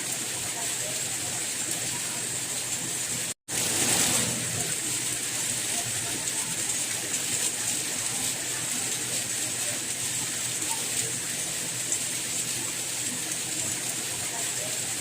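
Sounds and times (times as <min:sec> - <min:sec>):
soft rain hissing: 0:00.0 - 0:15.0.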